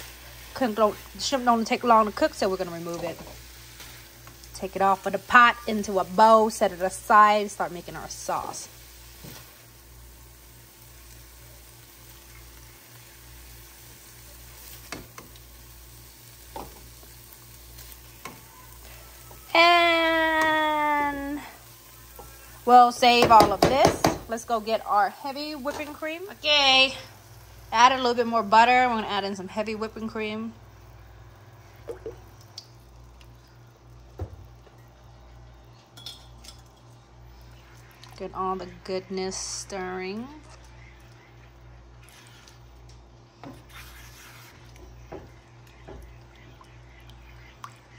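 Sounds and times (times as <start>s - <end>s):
food sizzling in a frying pan: 0.0s - 46.0s.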